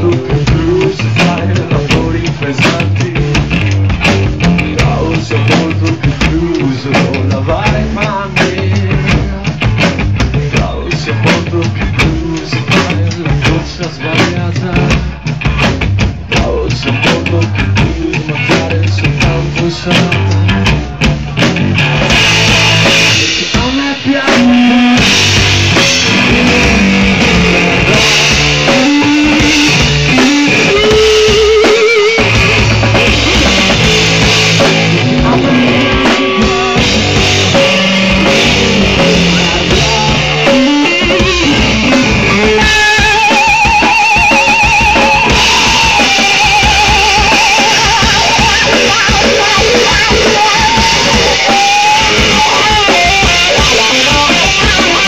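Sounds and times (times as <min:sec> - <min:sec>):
drum kit playing: 0:00.0 - 0:55.0
electric guitar playing blues-rock: 0:00.0 - 0:55.0.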